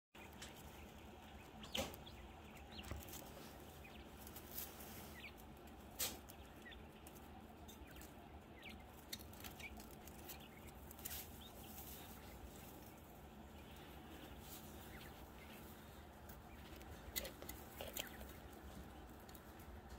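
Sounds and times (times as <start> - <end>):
quail chirping: 0.2 - 19.9.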